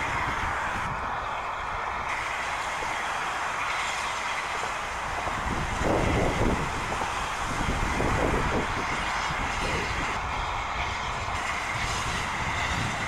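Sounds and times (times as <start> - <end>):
steam locomotive approaching: 0.0 - 13.0.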